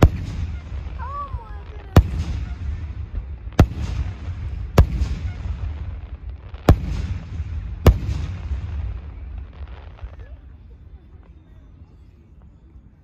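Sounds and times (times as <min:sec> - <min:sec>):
fireworks bangs: 0:00.0 - 0:11.3.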